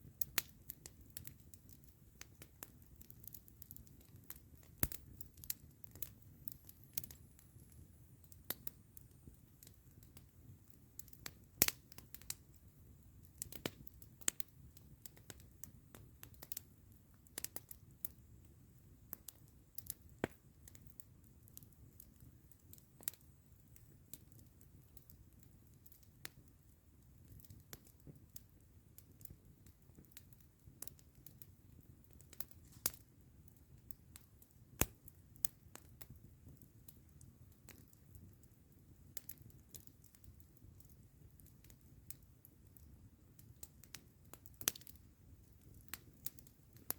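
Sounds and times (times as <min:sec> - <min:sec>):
campfire crackling and popping: 0:00.0 - 0:46.9
low steady hiss: 0:00.0 - 0:46.9.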